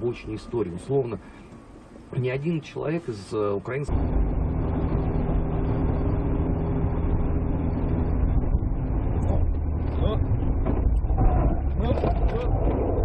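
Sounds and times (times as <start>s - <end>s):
car engine drone: 0.0s - 13.0s
road and tyre noise: 0.0s - 13.0s.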